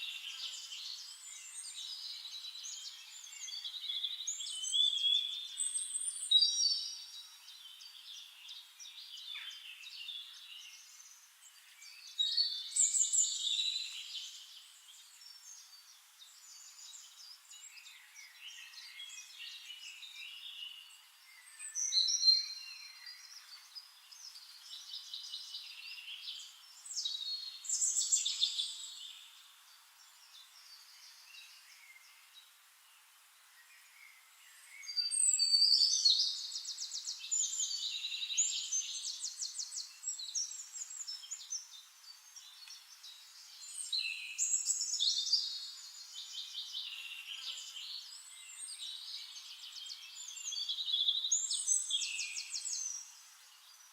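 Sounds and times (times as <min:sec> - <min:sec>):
birds chirping and singing: 0:00.0 - 0:32.3, 0:33.7 - 0:53.9.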